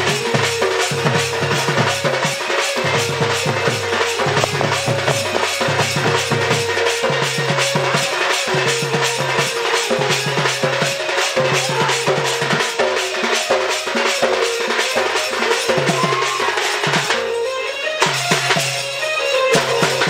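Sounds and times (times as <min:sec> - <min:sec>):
fast steady drumming: 0:00.0 - 0:20.0
held melody line: 0:00.0 - 0:20.0.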